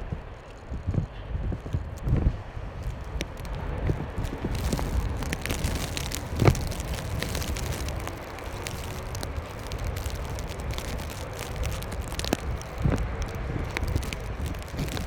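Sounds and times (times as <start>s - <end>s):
crackles: 0.0s - 15.0s.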